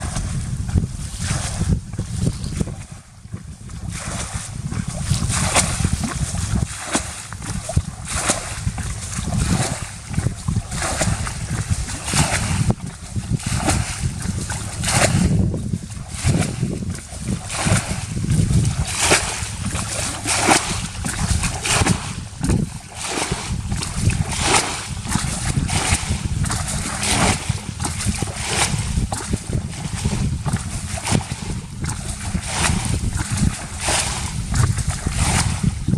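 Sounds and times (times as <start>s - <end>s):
steady low rumble: 0.0s - 35.9s
water splashing and sloshing: 0.0s - 35.9s.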